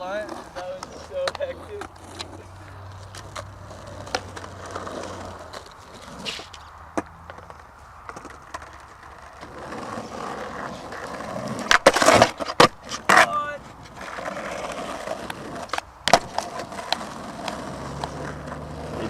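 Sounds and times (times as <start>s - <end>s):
skateboard clicks and knocks: 0.0s - 19.0s
skateboard rolling on concrete: 0.0s - 19.0s.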